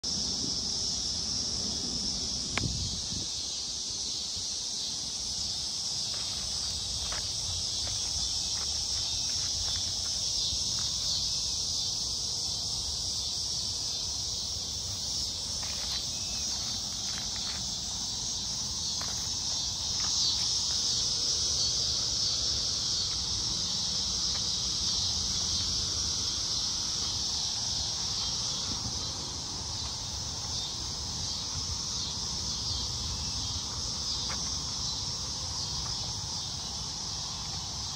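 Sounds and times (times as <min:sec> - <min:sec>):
insects chorus: 0:00.0 - 0:37.9.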